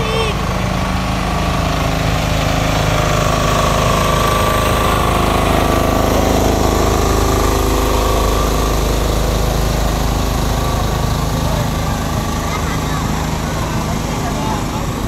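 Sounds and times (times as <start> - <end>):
engine running with steady drone: 0.0 - 15.0.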